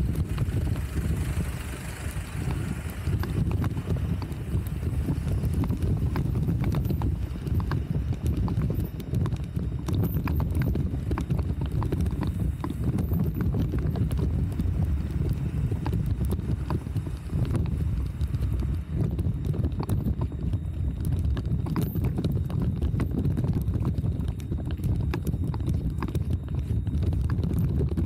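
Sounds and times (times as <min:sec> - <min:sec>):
bicycle rolling over paving: 0:00.0 - 0:28.0
bike clicks and rattles: 0:00.0 - 0:28.0.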